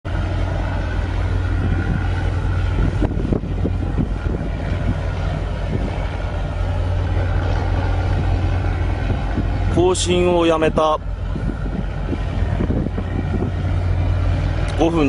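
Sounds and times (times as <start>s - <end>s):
ship engine hum: 0.0s - 15.0s
wind on microphone: 0.1s - 15.0s.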